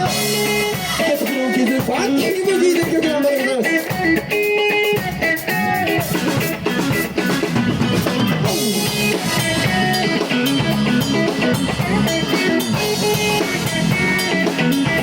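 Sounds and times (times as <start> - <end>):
drum kit: 0.0 - 15.0
guitar: 0.0 - 15.0
live band playing: 0.0 - 15.0.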